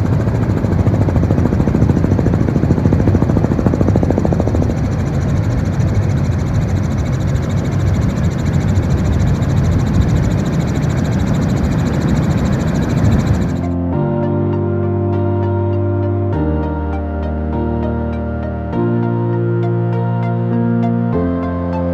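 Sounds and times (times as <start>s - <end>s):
helicopter engine and rotor drone: 0.0s - 21.9s.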